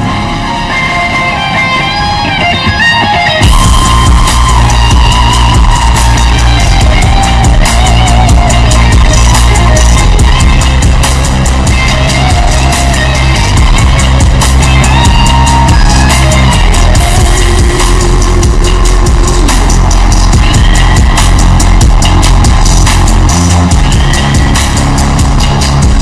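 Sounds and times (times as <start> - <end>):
rock music with heavy bass: 0.0 - 26.0.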